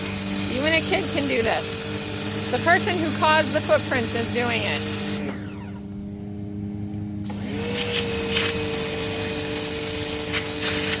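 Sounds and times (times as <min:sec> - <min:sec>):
high spray hiss: 0:00.0 - 0:05.2, 0:07.3 - 0:11.0
pressure washer motor whine: 0:00.0 - 0:11.0.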